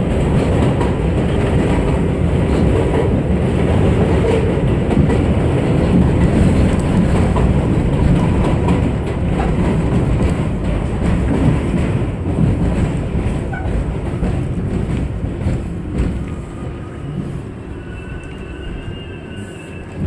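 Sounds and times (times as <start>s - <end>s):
subway train rumble and wheel clatter: 0.0s - 20.0s.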